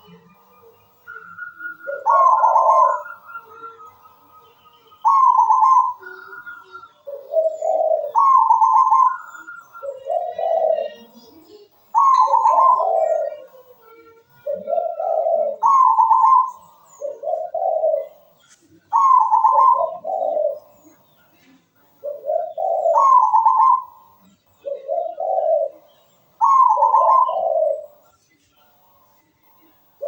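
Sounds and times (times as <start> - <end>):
dove cooing: 1.1 - 28.1.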